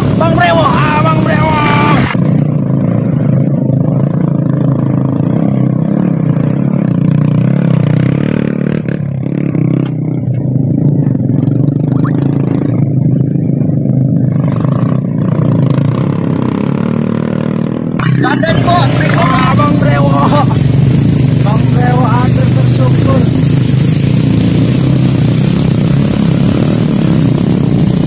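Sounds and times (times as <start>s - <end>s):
motorcycle engines revving hard: 0.0s - 28.0s.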